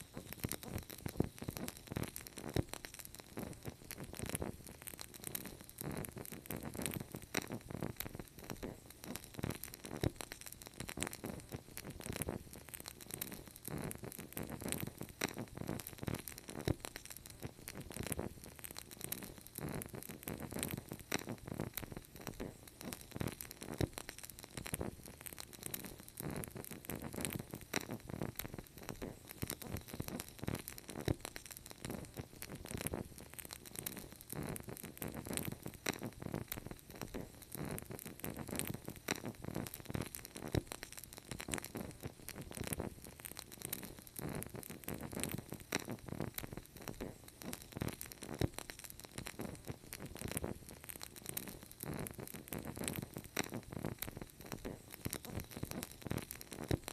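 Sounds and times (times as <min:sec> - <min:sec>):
fire crackling: 0:00.0 - 0:56.9.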